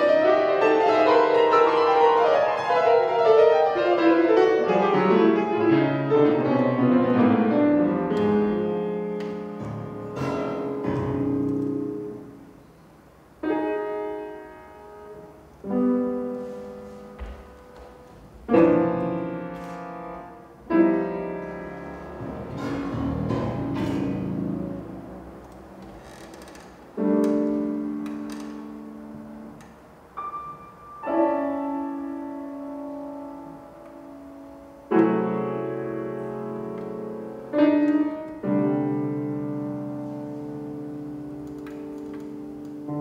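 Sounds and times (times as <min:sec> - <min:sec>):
solo piano: 0:00.0 - 0:43.0.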